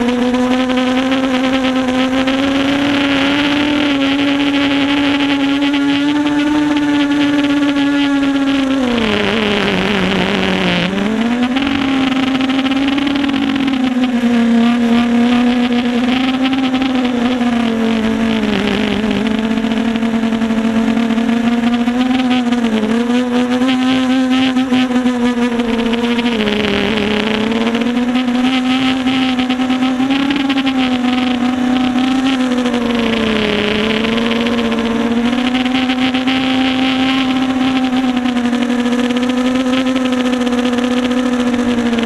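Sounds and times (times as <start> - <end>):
quadcopter motors whining: 0.0 - 42.0.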